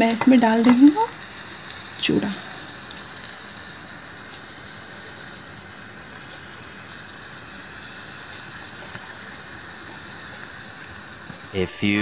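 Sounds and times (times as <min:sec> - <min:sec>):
oil sizzling in a pot: 0:00.0 - 0:11.6.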